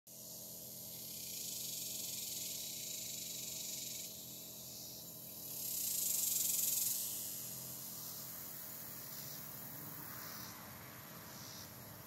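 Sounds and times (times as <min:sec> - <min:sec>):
cicadas buzzing: 0:00.1 - 0:12.0.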